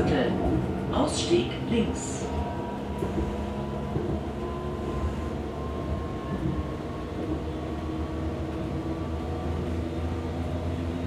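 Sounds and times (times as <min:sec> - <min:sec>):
train motors humming: 0:00.0 - 0:11.0.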